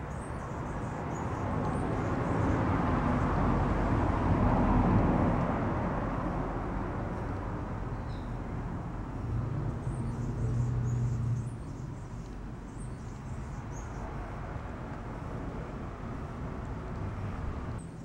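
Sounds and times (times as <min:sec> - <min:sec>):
vehicle passing: 0:00.0 - 0:18.0.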